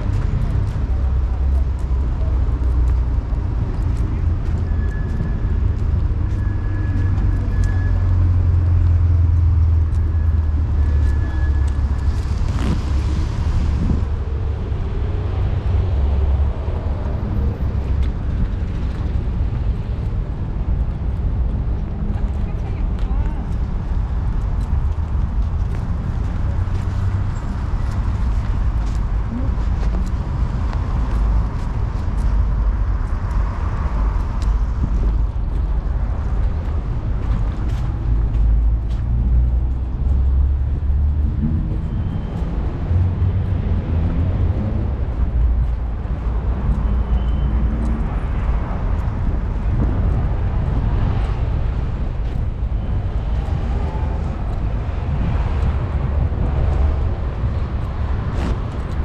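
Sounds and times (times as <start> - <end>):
cars passing: 0.0 - 59.0
low traffic rumble: 0.0 - 59.0.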